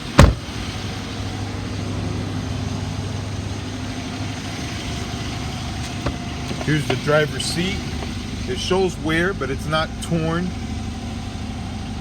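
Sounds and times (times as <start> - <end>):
engine idling rough: 0.0 - 12.0
engine ticking: 0.0 - 12.0.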